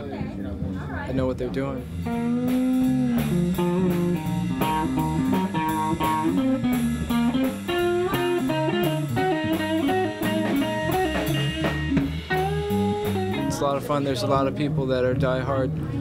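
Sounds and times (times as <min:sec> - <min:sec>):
bass guitar: 0:00.0 - 0:16.0
drums: 0:00.0 - 0:16.0
electric guitar lead: 0:01.7 - 0:16.0.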